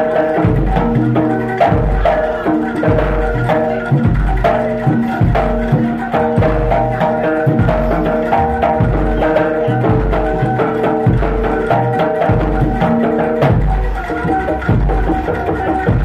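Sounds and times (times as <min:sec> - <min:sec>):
deep drum stroke: 0:00.0 - 0:16.0
hand drums beating: 0:00.0 - 0:16.0.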